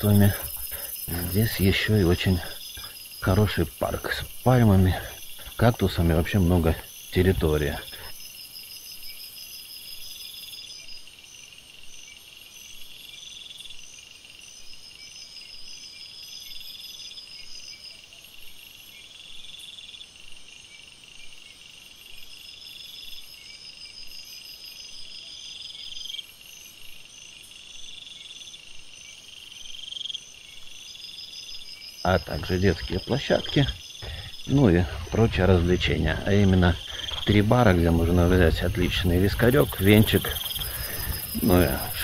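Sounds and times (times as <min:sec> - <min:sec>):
insect trills: 0:00.0 - 0:42.0
short insect chirps: 0:00.0 - 0:42.0.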